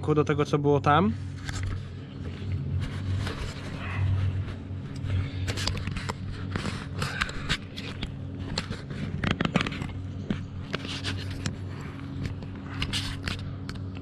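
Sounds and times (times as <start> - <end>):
low engine hum: 0.0 - 14.0
fingers rubbing on camera: 1.3 - 13.9.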